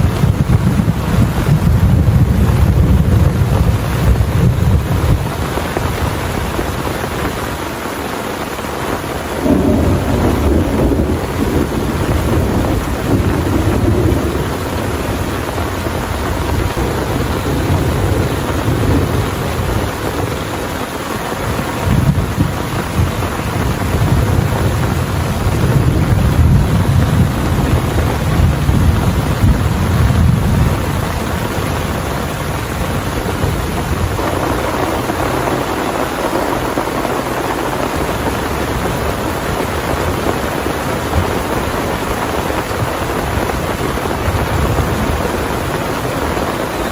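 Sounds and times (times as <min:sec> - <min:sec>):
heavy rain falling: 0:00.0 - 0:46.9
thunder rumbling: 0:00.0 - 0:46.9.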